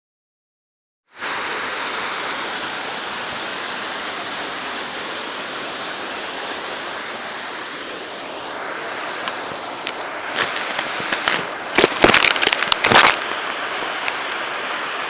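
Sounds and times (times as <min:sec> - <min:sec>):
waterfall rushing: 0:01.1 - 0:15.0.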